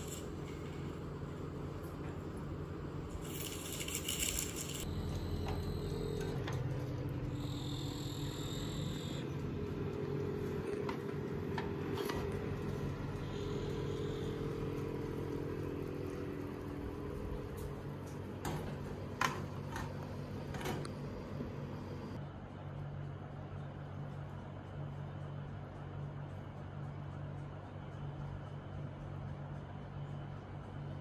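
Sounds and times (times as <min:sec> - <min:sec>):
electric oven humming: 0:00.0 - 0:31.0.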